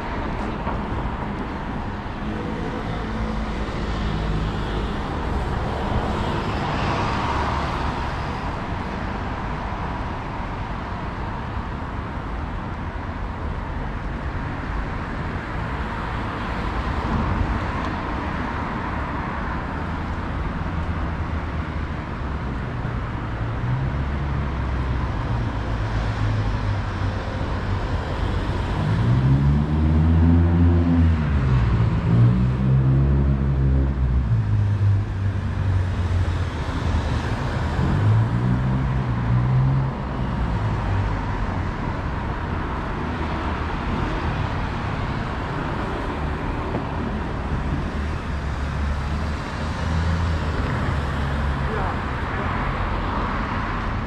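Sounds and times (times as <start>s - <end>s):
city street traffic: 0.0s - 54.0s.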